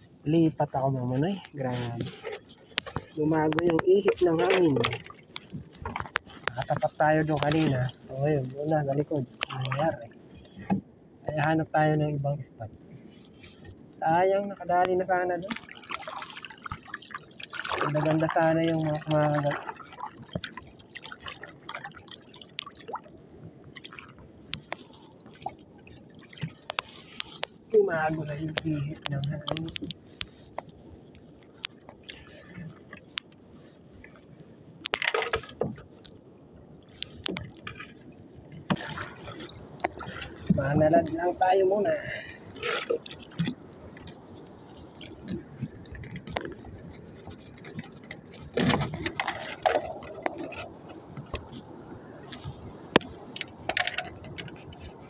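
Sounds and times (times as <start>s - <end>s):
water lapping against boat hull: 0.0s - 55.0s.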